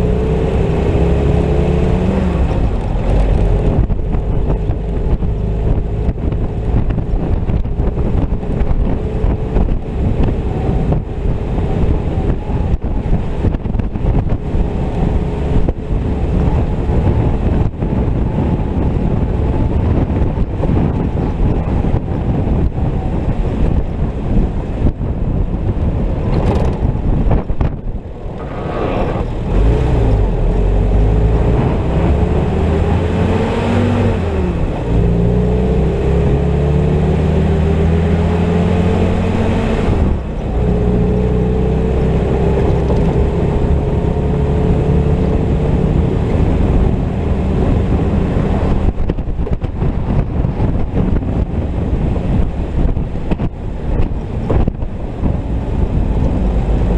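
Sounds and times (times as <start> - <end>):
jeep engine accelerating: 0.0 - 56.9
wind rushing over microphone: 0.0 - 56.9.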